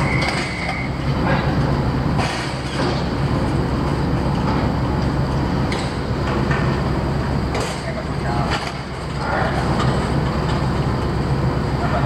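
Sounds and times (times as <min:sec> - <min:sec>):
ship diesel machinery drone: 0:00.0 - 0:12.0.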